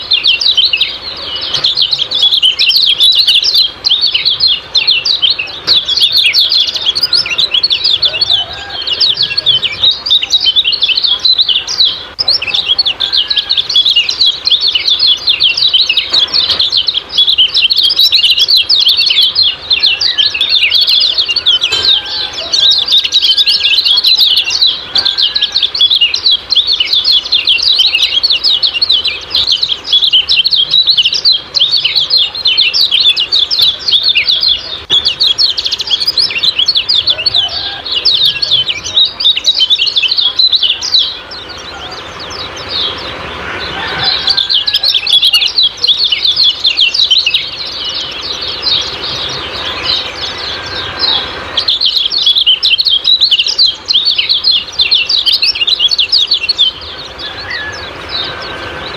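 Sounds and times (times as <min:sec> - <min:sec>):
bird twittering: 0:00.0 - 0:58.9
bird whistled notes: 0:00.0 - 0:58.9.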